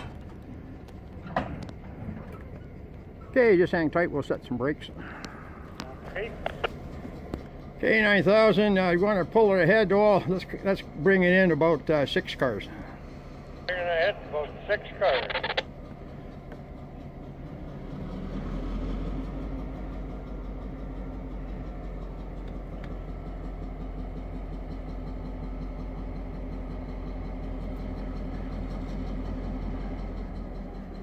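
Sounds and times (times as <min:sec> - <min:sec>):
diesel locomotive engine throttling up: 0:00.0 - 0:31.0.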